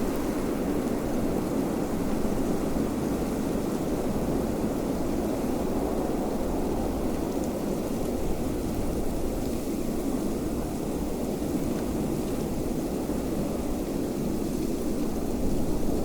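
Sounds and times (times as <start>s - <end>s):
steady wind: 0.0s - 16.0s.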